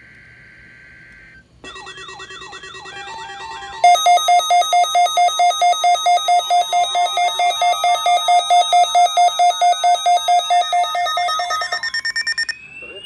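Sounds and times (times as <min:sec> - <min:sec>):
faint steady warning tone: 0:00.0 - 0:13.0
radio alarm beeping rapidly: 0:01.6 - 0:13.0.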